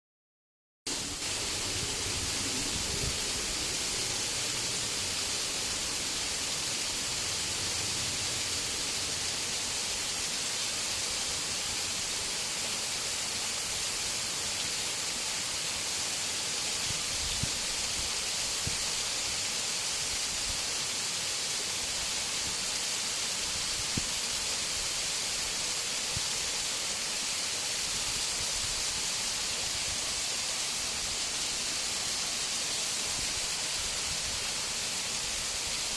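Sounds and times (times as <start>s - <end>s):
waterfall rushing hiss: 0.9s - 35.9s.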